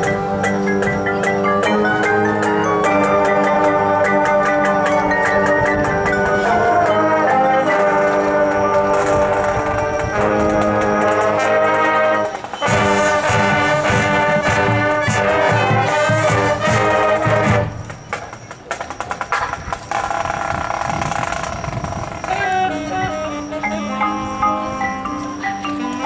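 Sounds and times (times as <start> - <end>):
marching band drums: 0.0 - 23.3
marching band brass: 0.0 - 26.0.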